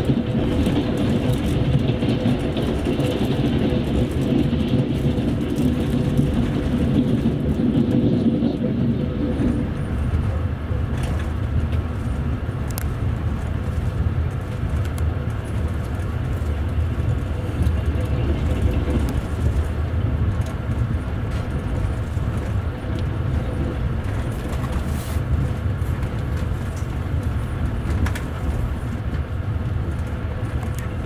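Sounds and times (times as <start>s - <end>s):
train coach rumbling on rails: 0.0s - 31.0s.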